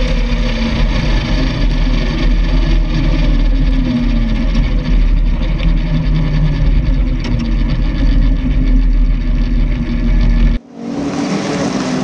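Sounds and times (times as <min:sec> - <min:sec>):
wind rumble on microphone: 0:00.0 - 0:10.6
motorcycle engine running: 0:00.0 - 0:10.7
racing engine drone: 0:00.0 - 0:12.0.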